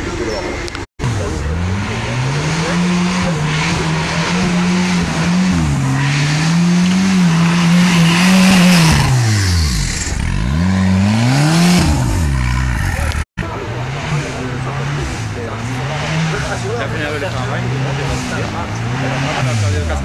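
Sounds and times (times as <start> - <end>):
buggy engine revving: 0.0 - 20.0.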